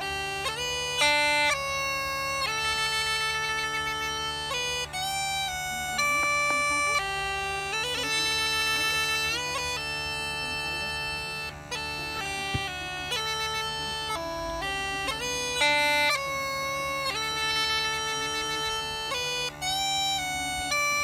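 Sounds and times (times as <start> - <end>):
bagpipe melody over drone: 0.0 - 21.0.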